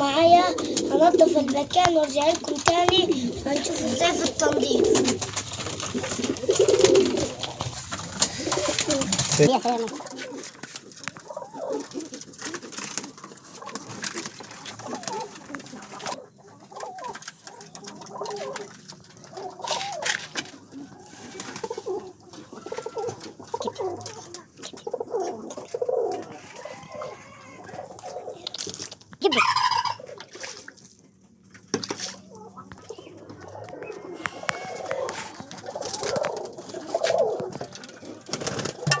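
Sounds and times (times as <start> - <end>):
pigeons cooing: 0.0 - 30.5, 32.1 - 39.0
chickens clucking: 0.0 - 39.0.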